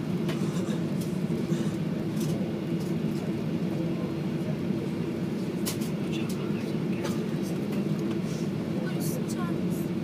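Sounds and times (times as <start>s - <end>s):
aircraft engine hum in cabin: 0.0s - 10.0s.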